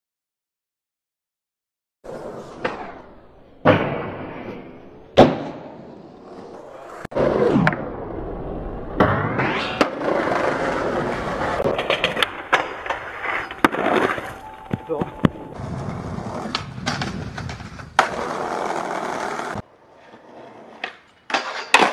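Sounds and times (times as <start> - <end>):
skateboard wheels rolling on concrete: 2.0 - 21.9
skateboard popping and landing: 2.1 - 7.9, 9.0 - 21.9.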